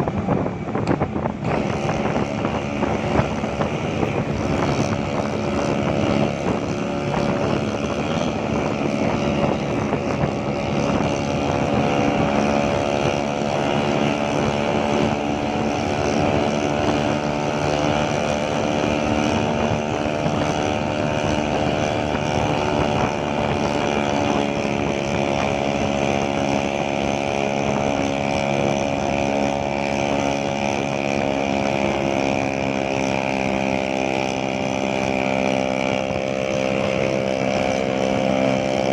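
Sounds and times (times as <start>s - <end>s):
scooter engine running: 0.0s - 38.9s
wind on microphone: 0.0s - 38.9s.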